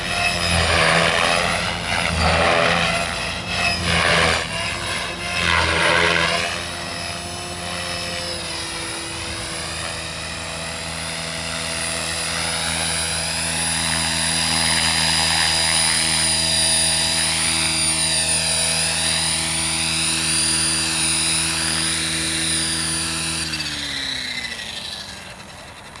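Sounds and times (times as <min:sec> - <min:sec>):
rc helicopter rotor buzzing: 0:00.0 - 0:26.0.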